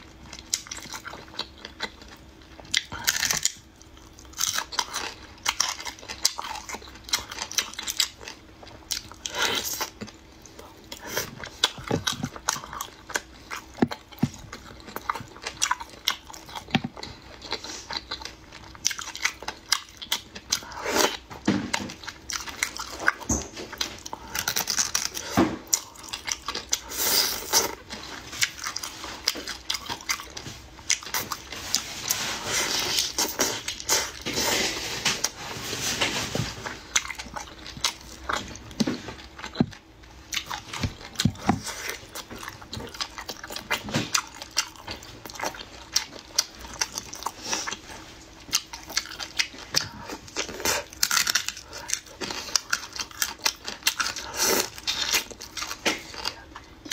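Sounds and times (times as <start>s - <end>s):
close-miked eating and chewing: 0.0s - 56.9s.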